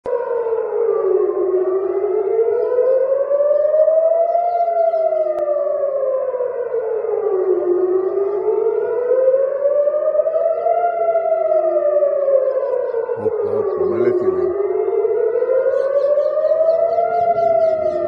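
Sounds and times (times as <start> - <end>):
air-raid siren wailing: 0.0 - 18.0.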